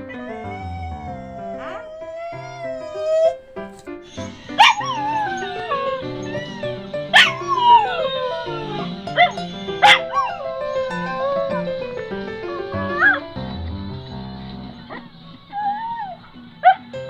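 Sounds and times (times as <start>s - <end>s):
dog howling: 0.0s - 13.6s, 14.6s - 17.0s
background music: 0.0s - 17.0s.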